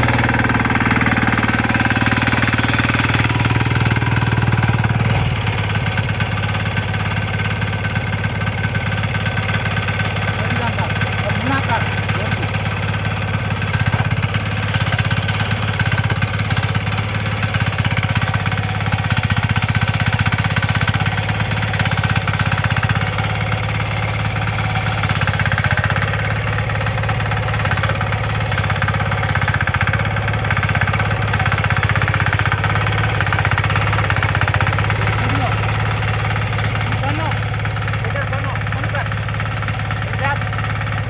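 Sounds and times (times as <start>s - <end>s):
small diesel engine knocking: 0.0s - 41.0s.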